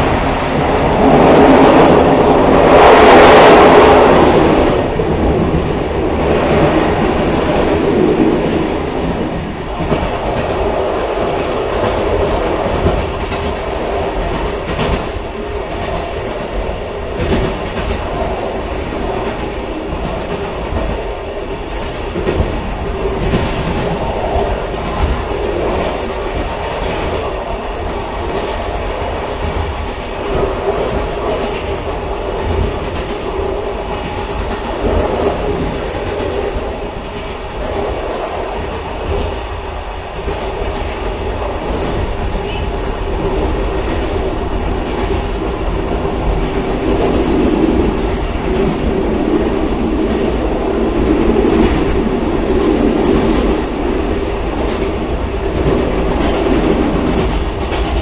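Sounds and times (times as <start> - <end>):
clickety-clack of rail joints: 0.0 - 58.0
train wheels rumbling on rails: 0.0 - 58.0.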